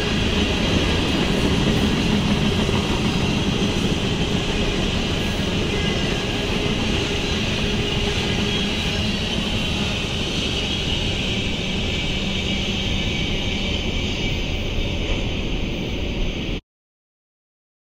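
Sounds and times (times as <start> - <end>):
freight train rolling on rails: 0.0 - 16.6.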